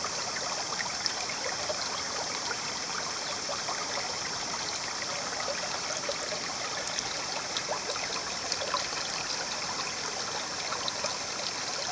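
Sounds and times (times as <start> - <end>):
shallow river water running: 0.0 - 11.9.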